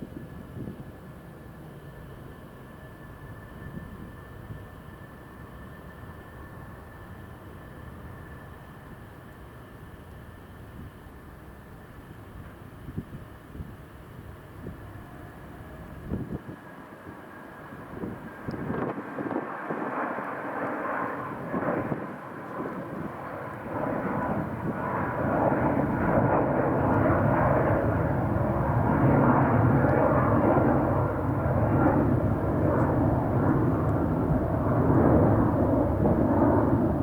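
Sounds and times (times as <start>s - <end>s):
faint steady tones: 0.0s - 37.0s
jet engines at takeoff: 0.0s - 37.0s.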